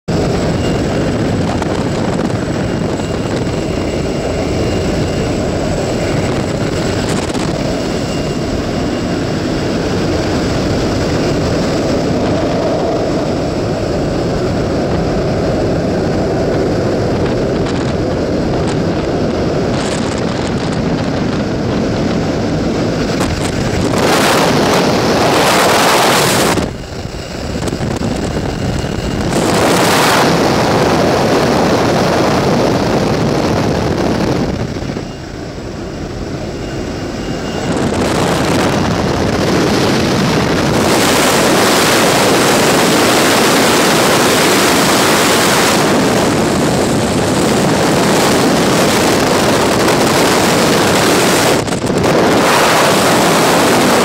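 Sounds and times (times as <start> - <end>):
loud rush of wind: 0.0 - 54.0
plane engine and propeller drone: 0.0 - 54.0.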